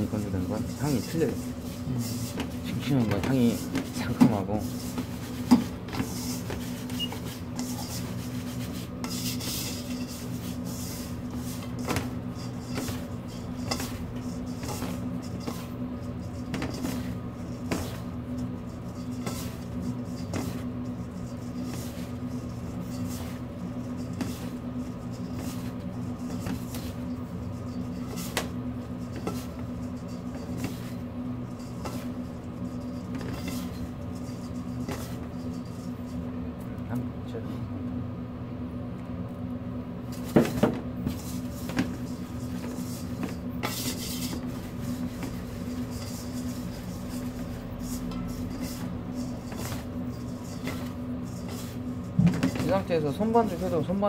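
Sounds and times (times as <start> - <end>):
hands working dough in bowl: 0.0 - 36.8, 40.0 - 54.0
low electrical hum: 0.0 - 54.0.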